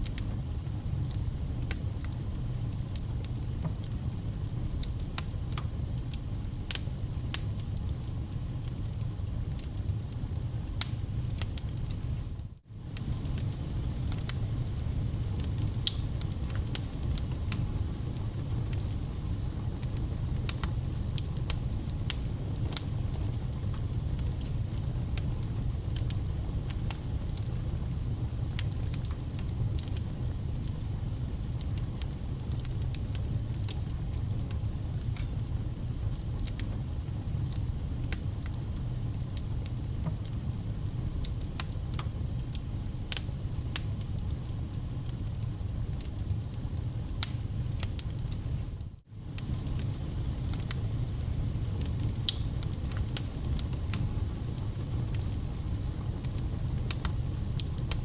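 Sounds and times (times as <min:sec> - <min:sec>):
low rumble of flame: 0:00.0 - 0:58.0
wood fire crackling and popping: 0:00.0 - 0:58.0.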